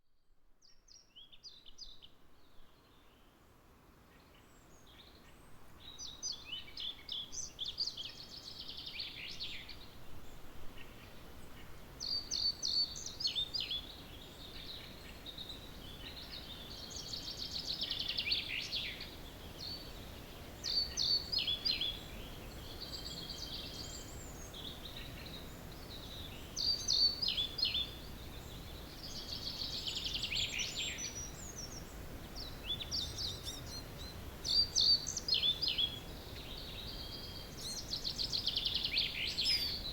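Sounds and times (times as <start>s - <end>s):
songbirds singing: 4.1s - 39.9s.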